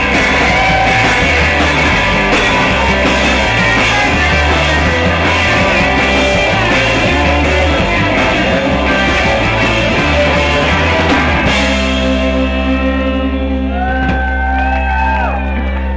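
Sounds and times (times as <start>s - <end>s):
guitar chord ringing: 0.0s - 14.4s
live rock band playing: 0.0s - 15.9s.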